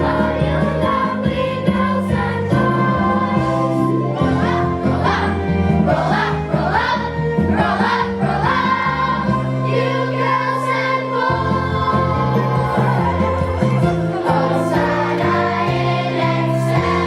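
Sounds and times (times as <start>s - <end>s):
choir singing with accompaniment: 0.0s - 17.0s.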